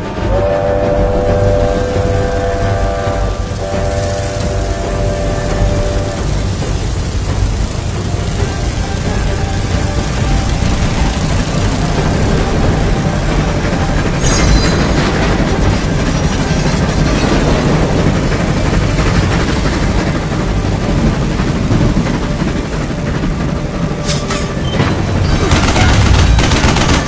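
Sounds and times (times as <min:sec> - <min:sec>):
train rumbling: 0:00.0 - 0:27.0.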